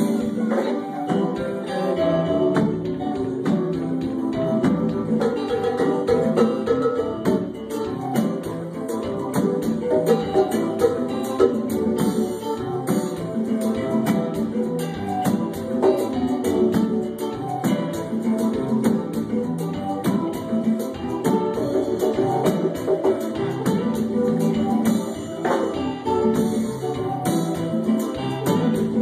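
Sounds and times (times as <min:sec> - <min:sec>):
percussion beat: 0:00.0 - 0:29.0
strummed guitar: 0:00.0 - 0:29.0.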